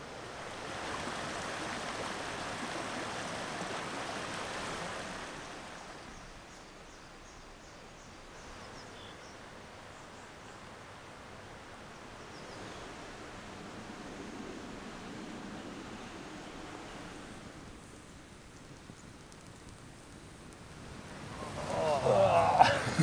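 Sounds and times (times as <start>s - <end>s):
river water over rocks: 0.0s - 23.0s.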